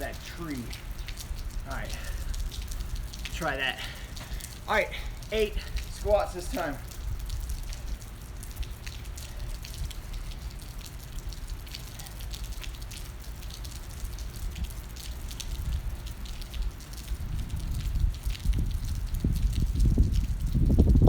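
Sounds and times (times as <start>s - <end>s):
raindrops ticking: 0.0s - 21.0s.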